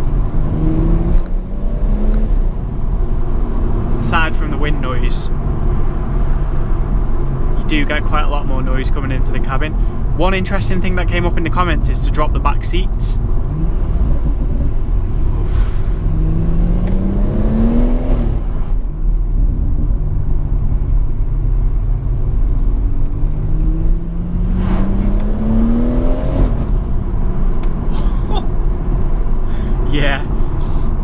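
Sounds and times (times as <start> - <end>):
car engine accelerating: 0.0 - 7.9, 13.0 - 30.9.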